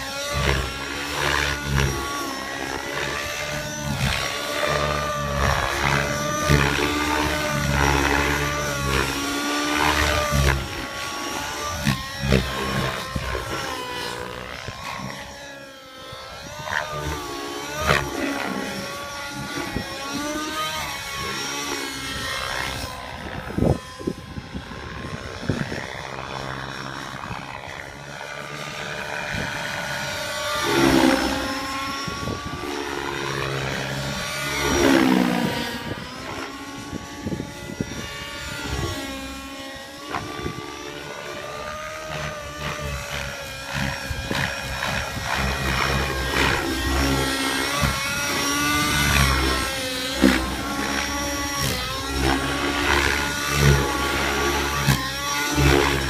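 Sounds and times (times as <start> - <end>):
rc helicopter engine and rotor: 0.0 - 56.0.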